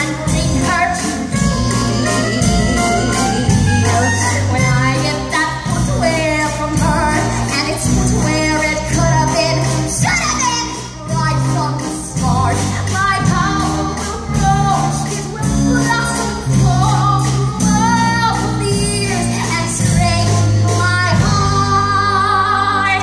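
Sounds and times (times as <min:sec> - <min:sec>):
instrumental accompaniment: 0:00.0 - 0:23.0
woman singing: 0:00.0 - 0:23.0.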